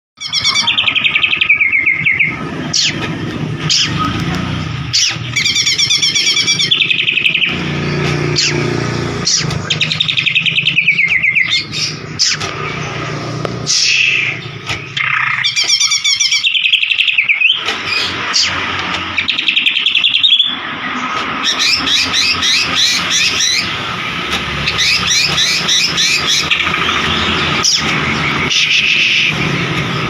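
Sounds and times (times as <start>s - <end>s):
bird singing chirps and trills: 0.2s - 30.0s.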